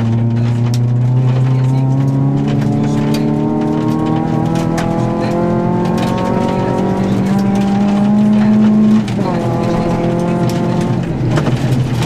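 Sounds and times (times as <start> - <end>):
car engine accelerating: 0.0 - 12.0
gravel pinging on car underside: 0.0 - 12.0.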